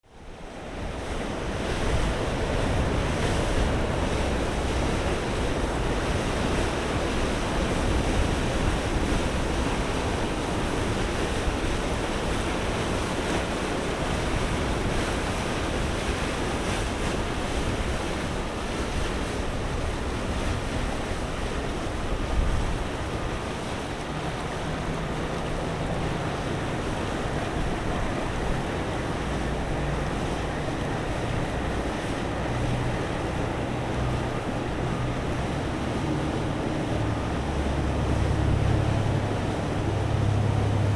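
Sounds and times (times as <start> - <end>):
sea waves breaking: 0.1 - 40.9
wind buffeting microphone: 0.3 - 40.9.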